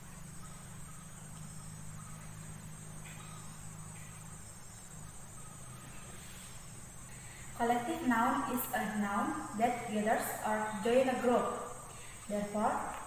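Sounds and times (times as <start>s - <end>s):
insects chirring: 0.0s - 13.0s
low steady hum: 0.0s - 13.0s.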